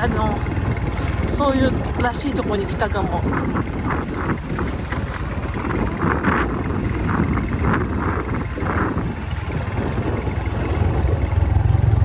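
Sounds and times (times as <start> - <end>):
motorbike engine running: 0.0 - 12.0
wind buffeting microphone: 0.0 - 12.0.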